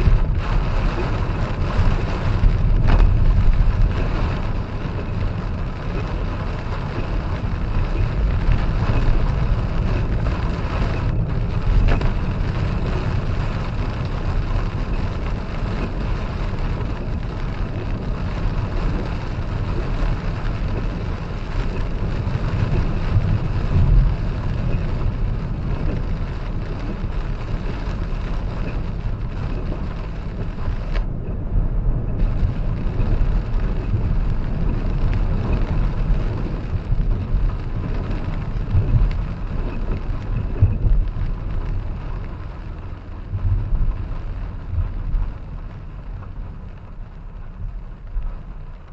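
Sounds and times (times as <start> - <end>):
rain hiss: 0.0 - 48.9
road and engine rumble: 0.0 - 48.9.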